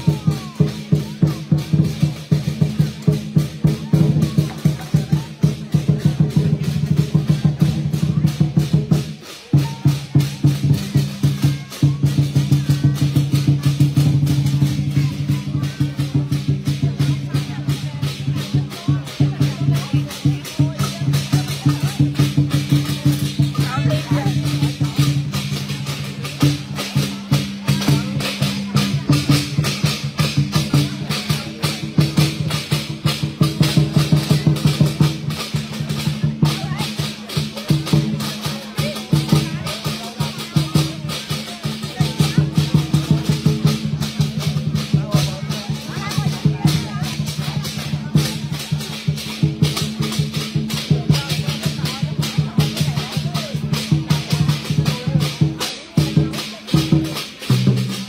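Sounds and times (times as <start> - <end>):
drum and cymbals fast beat: 0.0 - 58.0.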